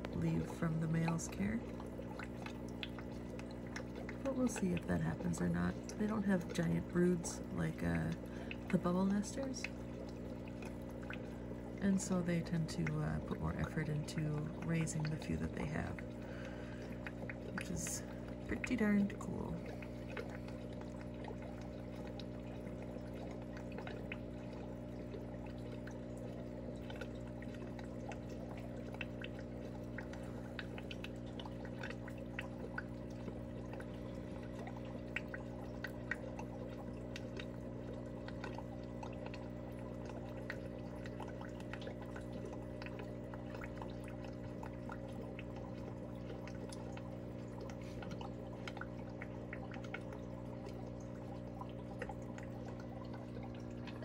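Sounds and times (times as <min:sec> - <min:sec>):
low filter hum: 0:00.0 - 0:54.0
water bubbling and dripping: 0:00.0 - 0:54.0.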